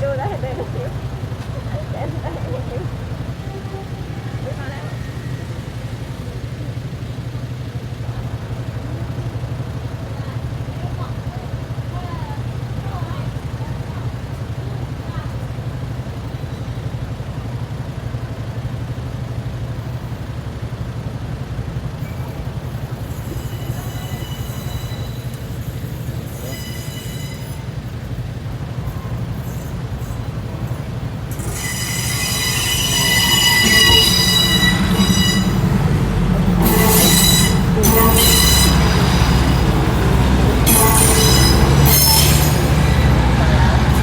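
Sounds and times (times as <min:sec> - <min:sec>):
train wheels squealing on rails: 0:00.0 - 0:18.7, 0:21.6 - 0:44.0
diesel train engine hum: 0:00.0 - 0:44.0.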